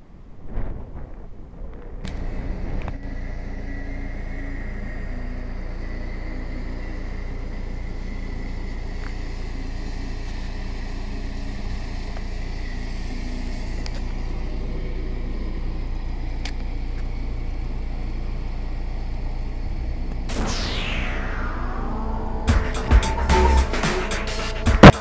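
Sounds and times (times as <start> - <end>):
car engine and tyre rumble: 0.0 - 22.4.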